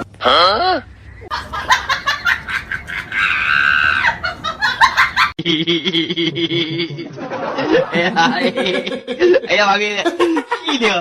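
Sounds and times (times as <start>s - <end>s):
person laughing: 1.2s - 11.0s.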